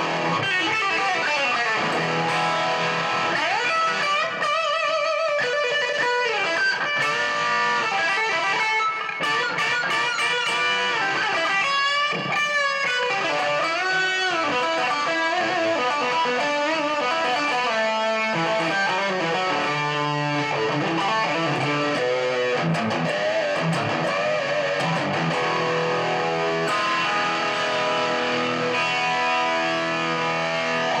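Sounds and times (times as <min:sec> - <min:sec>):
distorted electric guitar: 0:00.0 - 0:31.0.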